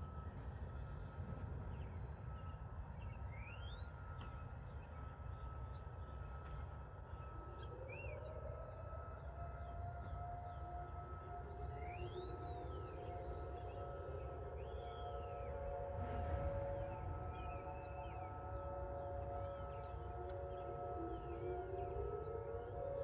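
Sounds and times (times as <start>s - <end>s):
lower second siren tone: 0.0s - 23.0s
warning siren: 0.0s - 23.0s.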